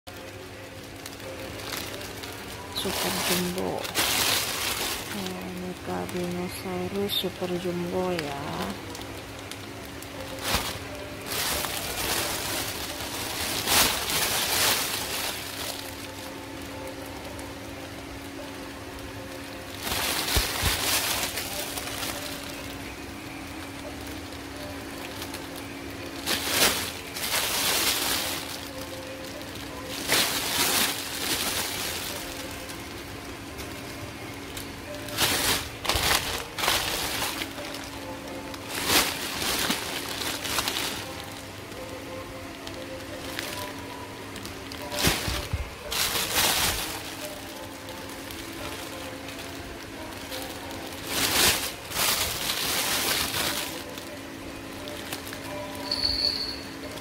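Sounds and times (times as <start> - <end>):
plastic wrapping crinkling: 0.1 - 57.0.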